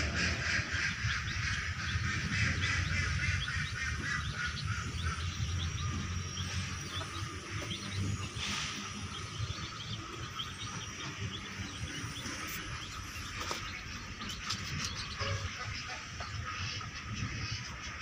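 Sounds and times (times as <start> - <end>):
birds and insects chirping: 0.0 - 18.0.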